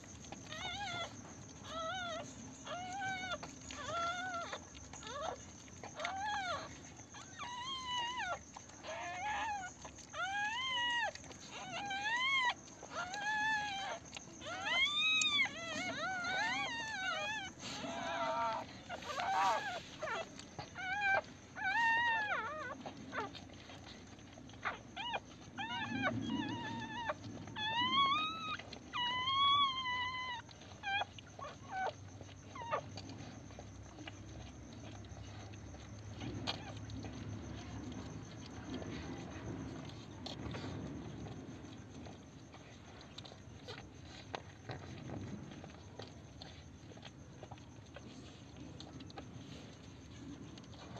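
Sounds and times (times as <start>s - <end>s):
puppies crying with thin squeals: 0.0s - 50.9s.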